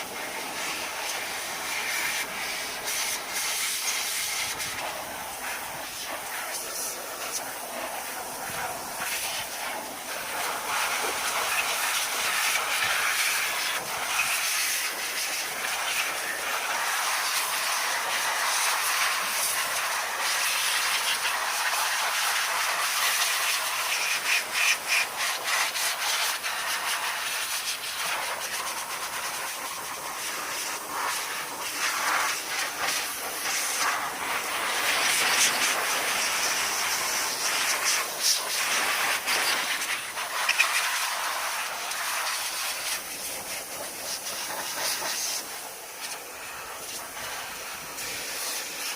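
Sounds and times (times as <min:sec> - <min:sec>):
pressurised jet hissing: 0:00.0 - 0:48.9.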